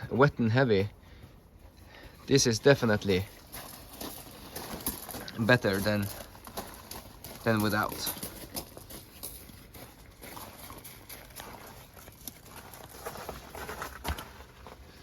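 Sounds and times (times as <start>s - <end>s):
soft uneven footsteps: 0.0s - 15.0s.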